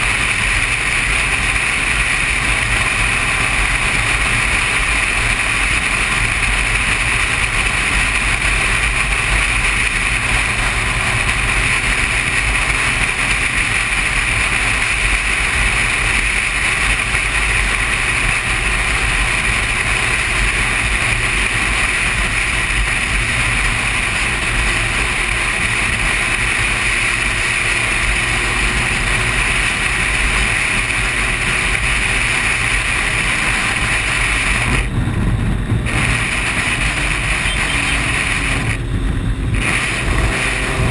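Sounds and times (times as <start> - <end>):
motorcycle engine cruising: 0.0 - 40.9
road noise: 0.0 - 40.9
wind rush: 0.0 - 40.9.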